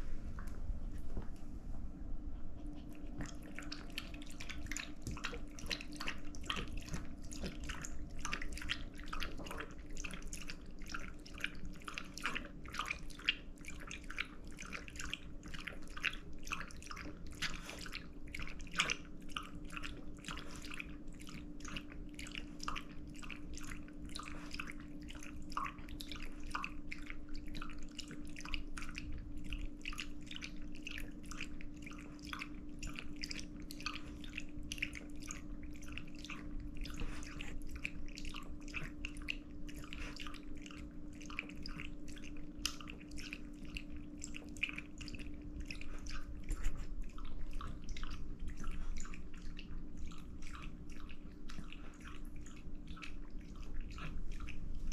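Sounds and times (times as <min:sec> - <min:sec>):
faint steady hum: 0:00.0 - 0:54.9
dog smacking and licking: 0:02.4 - 0:54.9.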